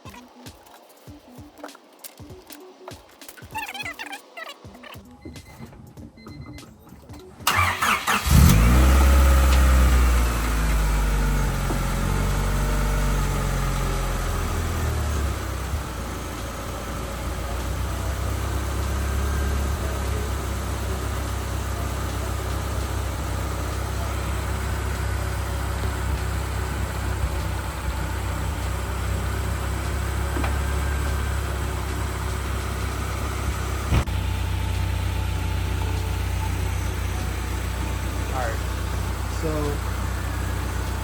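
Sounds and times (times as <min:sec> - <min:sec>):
car engine idling: 0:07.4 - 0:41.0.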